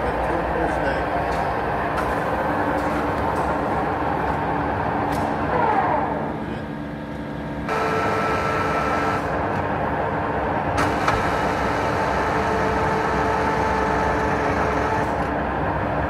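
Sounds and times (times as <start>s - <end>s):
lathe running with mechanical hum: 0.0s - 16.0s.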